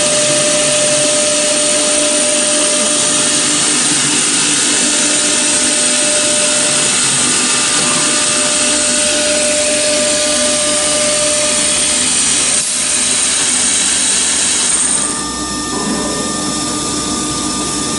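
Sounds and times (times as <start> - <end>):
high machine whine: 0.0 - 17.9
router rushing noise: 0.0 - 17.9.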